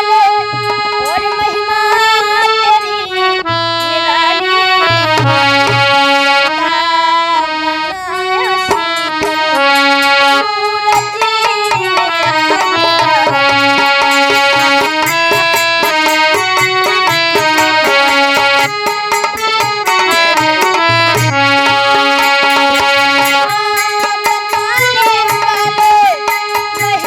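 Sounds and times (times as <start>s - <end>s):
harmonium melody: 0.0s - 27.0s.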